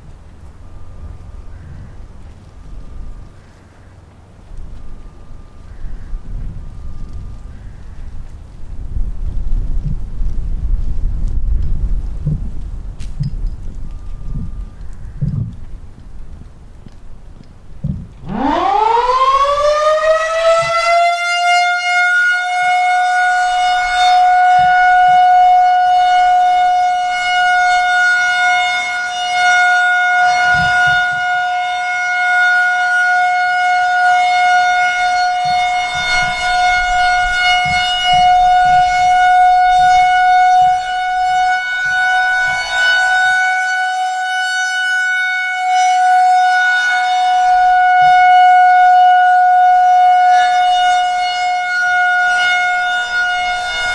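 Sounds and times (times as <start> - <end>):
outdoor warning siren steady tone: 0.0 - 11.6, 12.2 - 16.0, 17.8 - 53.9.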